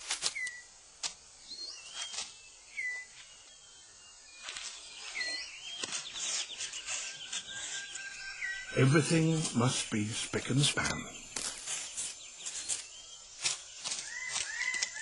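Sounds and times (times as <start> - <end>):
rustling leaves and twigs: 0.0 - 15.0
bird chirps: 0.2 - 0.7, 1.4 - 15.0.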